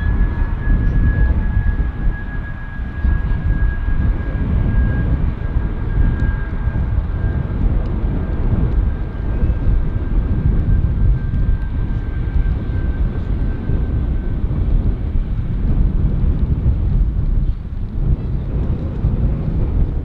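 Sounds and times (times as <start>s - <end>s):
airliner engines rumbling: 0.0s - 20.0s.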